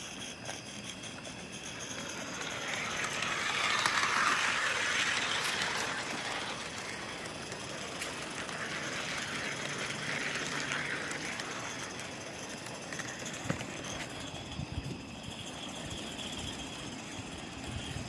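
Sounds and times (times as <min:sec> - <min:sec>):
steam hissing: 0:00.0 - 0:18.0.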